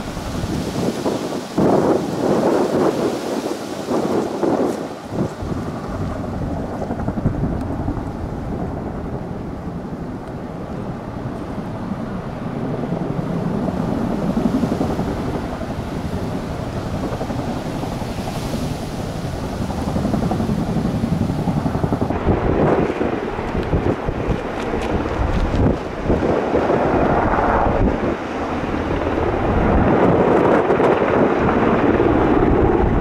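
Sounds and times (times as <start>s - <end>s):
downwash rushing over water: 0.0s - 33.0s
helicopter rotor rumble: 0.0s - 33.0s
wind buffeting microphone: 0.0s - 33.0s.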